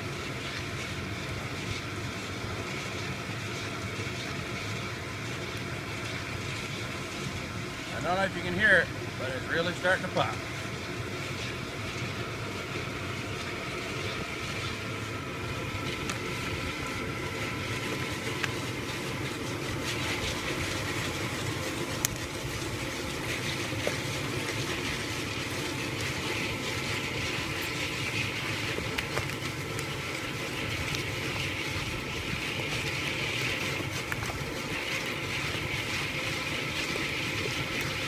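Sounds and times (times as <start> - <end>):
burner rushing: 0.0 - 38.0.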